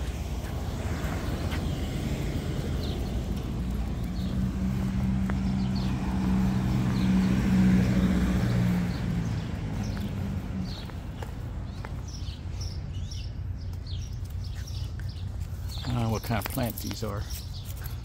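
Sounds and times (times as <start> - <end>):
vehicle engine humming: 0.0 - 16.2
traffic rumble: 0.0 - 18.0.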